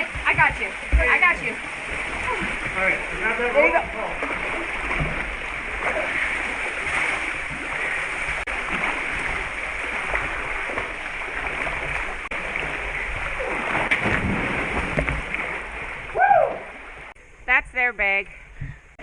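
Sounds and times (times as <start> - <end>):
flowing creek water: 0.0 - 17.2
splashing in water: 0.0 - 17.2.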